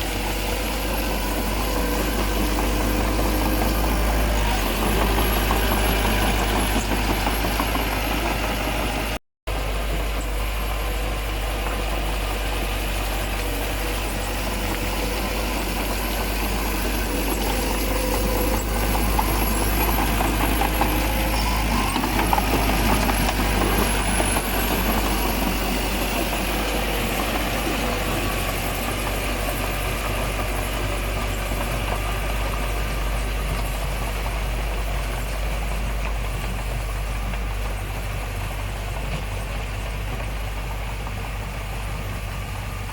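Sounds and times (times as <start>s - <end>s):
diesel engine running at low revs: 0.0s - 42.9s.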